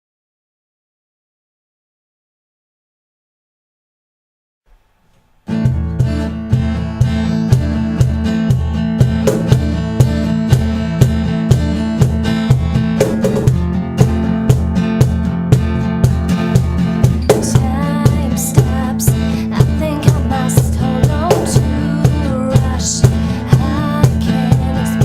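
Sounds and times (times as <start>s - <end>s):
acoustic guitar strumming: 4.7s - 25.0s.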